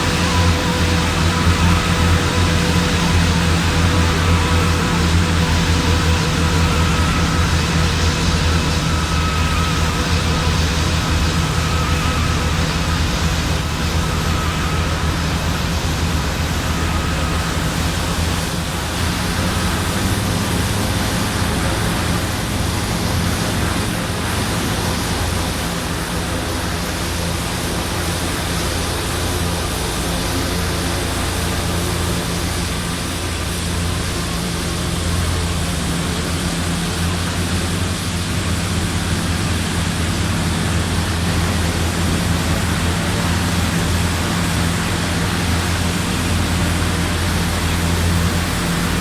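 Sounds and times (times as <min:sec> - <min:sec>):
faint high whine: 0:00.0 - 0:49.0.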